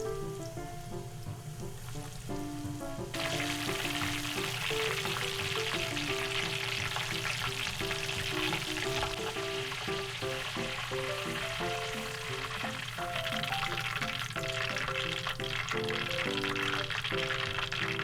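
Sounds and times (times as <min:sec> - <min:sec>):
food deep-frying in hot oil: 0:00.0 - 0:18.0.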